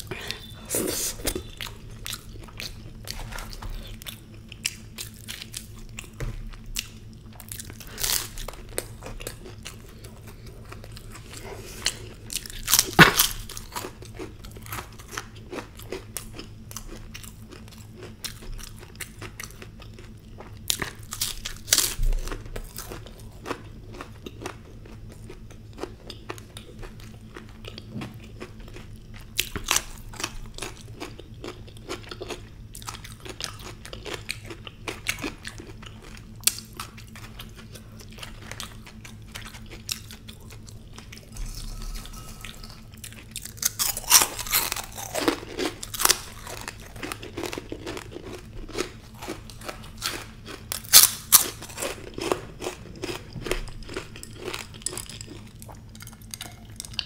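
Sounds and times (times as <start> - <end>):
chewing and biting food: 0.0 - 57.0.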